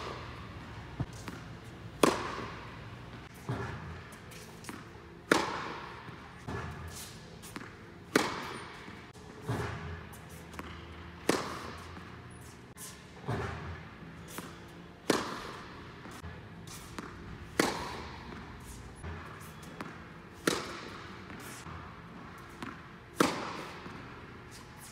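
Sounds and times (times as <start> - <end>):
racquet hitting tennis ball: 0.0 - 12.4, 13.2 - 24.9
tennis balls bouncing: 0.0 - 12.6, 13.2 - 24.9.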